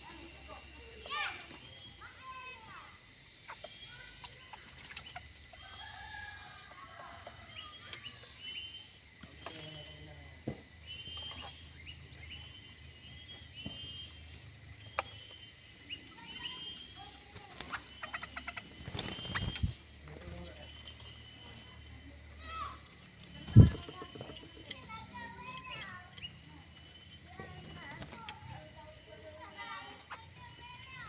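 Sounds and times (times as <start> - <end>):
birds chirping: 0.0 - 31.0
lower bird calls: 0.0 - 31.0.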